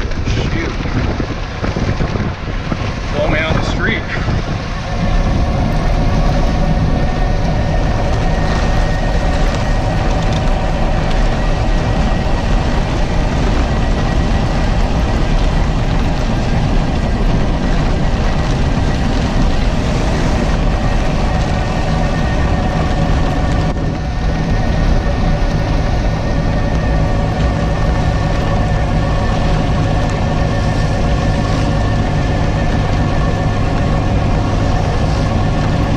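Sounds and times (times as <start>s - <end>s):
heavy rain: 0.0s - 35.9s
steady whine: 0.0s - 35.9s
wind and road noise: 0.0s - 35.9s.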